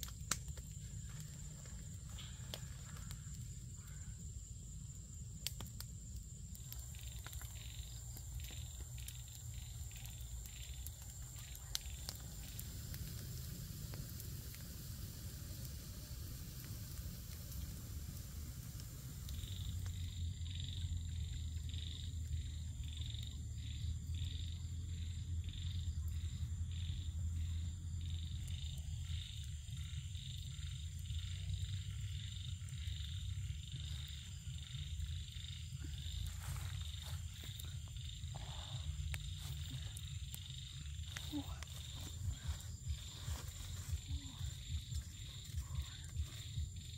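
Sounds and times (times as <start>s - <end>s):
high insect whine: 0.0s - 46.9s.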